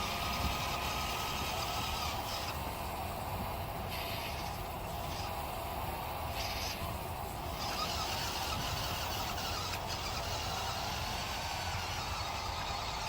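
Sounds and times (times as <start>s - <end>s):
toy truck motor whining: 0.0s - 13.0s
tyre and road noise: 0.0s - 13.0s.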